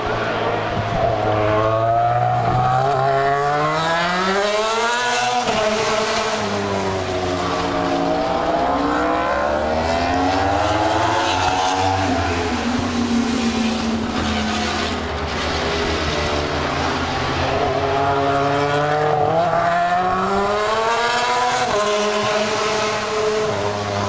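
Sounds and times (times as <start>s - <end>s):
racing motorcycle engines accelerating: 0.0s - 24.0s.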